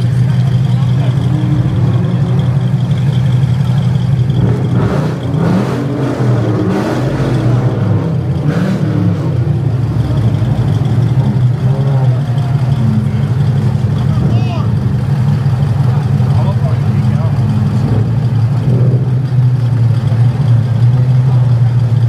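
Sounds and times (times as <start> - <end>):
car engines running: 0.0 - 22.0
engine revs: 0.0 - 22.0
faint crowd voices: 0.0 - 22.0.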